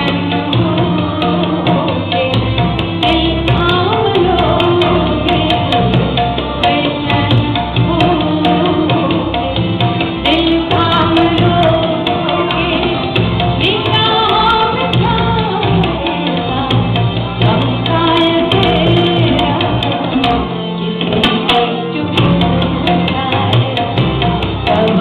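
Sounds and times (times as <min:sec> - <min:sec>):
tabla strokes: 0:00.0 - 0:25.0
woman singing: 0:00.0 - 0:25.0.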